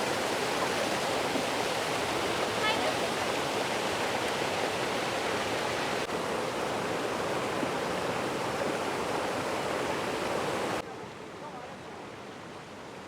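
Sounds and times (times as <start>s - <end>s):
waterfall splashing and rushing: 0.0s - 10.8s.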